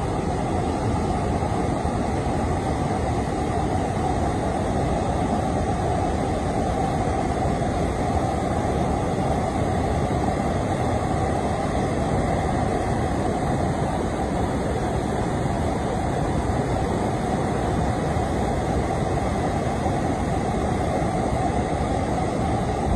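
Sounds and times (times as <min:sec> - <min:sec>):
waterfall roaring: 0:00.0 - 0:22.9.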